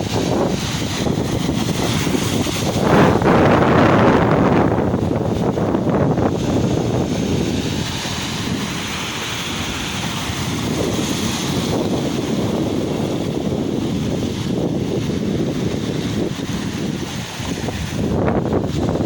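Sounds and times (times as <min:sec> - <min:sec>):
sea waves washing on shore: 0:00.0 - 0:19.0
wind buffeting microphone: 0:00.0 - 0:19.0.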